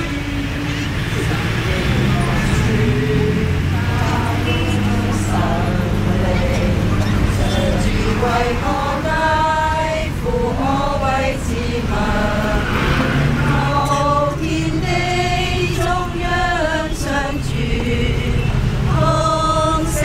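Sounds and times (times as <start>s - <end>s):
bus low rumble: 0.0s - 20.0s
group of voices singing: 0.0s - 20.0s.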